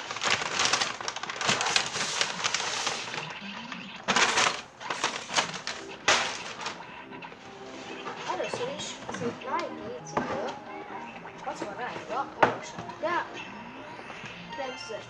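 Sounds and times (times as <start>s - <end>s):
paper and cardboard rustling: 0.0s - 3.4s, 4.0s - 13.3s.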